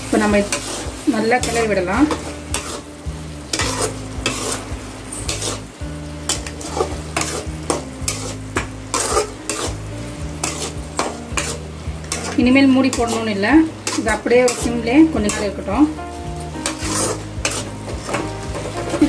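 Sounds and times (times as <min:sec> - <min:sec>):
masala sizzling: 0:00.0 - 0:19.0
spatula scraping in a pan: 0:00.1 - 0:19.0.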